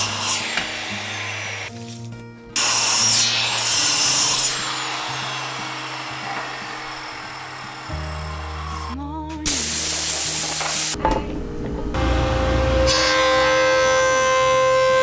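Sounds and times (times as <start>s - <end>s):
miter saw cutting wood: 0.0s - 1.8s, 2.6s - 11.0s, 12.0s - 15.0s.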